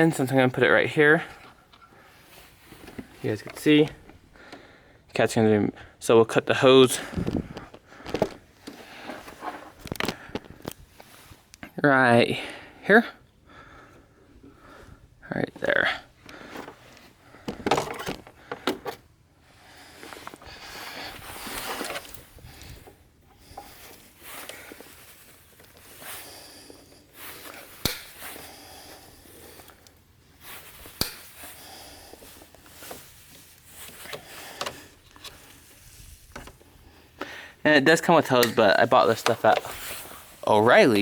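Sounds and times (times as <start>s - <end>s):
rustling and scraping: 0.0s - 4.7s, 7.0s - 11.5s, 15.6s - 37.3s, 37.9s - 41.0s.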